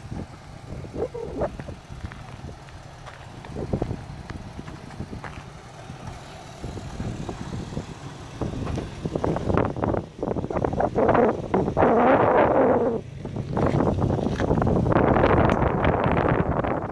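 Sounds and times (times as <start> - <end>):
pickup truck engine running: 0.0 - 16.9
wind buffeting microphone: 0.0 - 16.9.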